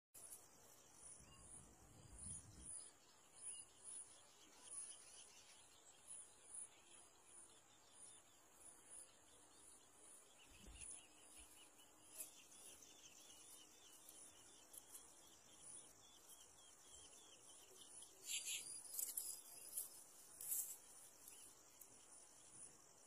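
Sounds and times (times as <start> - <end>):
crickets chirping: 0.2 - 23.0.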